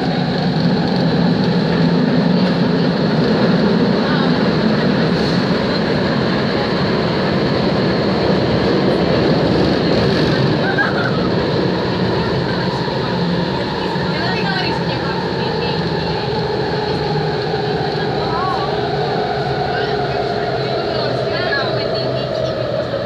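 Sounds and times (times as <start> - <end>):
train rushing and rumbling: 0.0 - 23.0.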